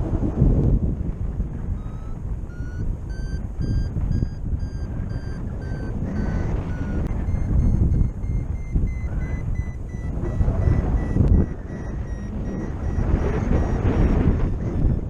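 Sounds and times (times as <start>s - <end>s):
wind on microphone: 0.0s - 15.0s
variometer beeping: 1.7s - 15.0s.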